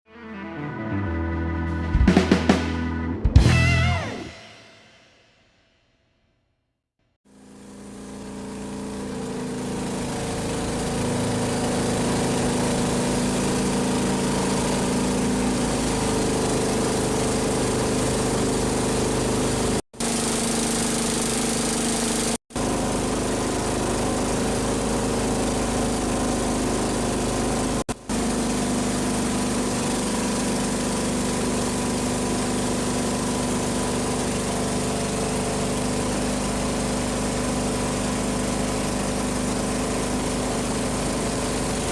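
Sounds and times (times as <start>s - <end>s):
boat engine droning: 0.3s - 4.2s, 7.4s - 41.9s.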